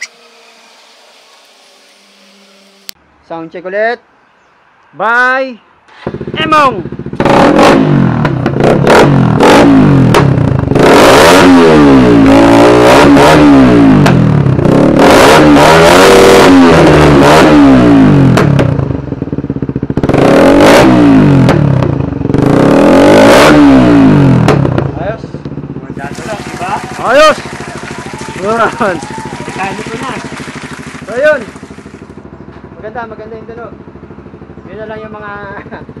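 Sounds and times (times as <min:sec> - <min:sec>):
motorcycle engine revving: 0:00.0 - 0:03.0, 0:05.9 - 0:36.0.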